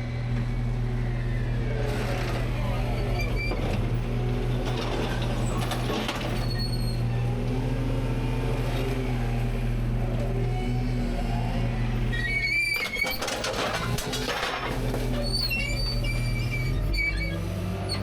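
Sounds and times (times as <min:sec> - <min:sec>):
garbage truck engine running: 0:00.1 - 0:18.0.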